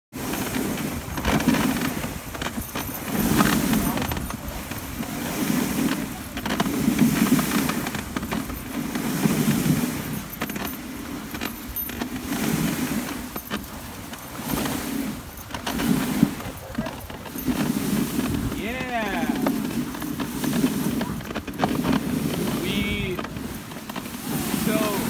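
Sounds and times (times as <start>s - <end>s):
sled runners rushing on snow: 0.1s - 25.0s
wind: 0.1s - 25.0s
harness gear jingling: 0.2s - 25.0s.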